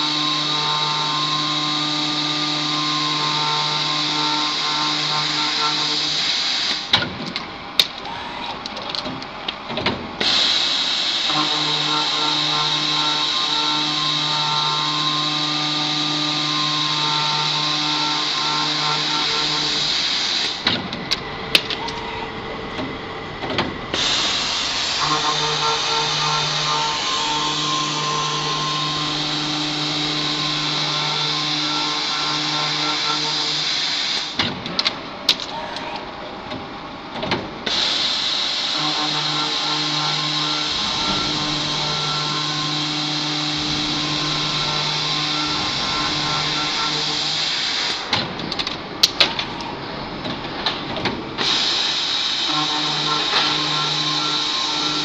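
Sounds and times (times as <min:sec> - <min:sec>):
circular saw machine humming: 0:00.0 - 0:07.8, 0:09.6 - 0:34.4, 0:36.2 - 0:55.0.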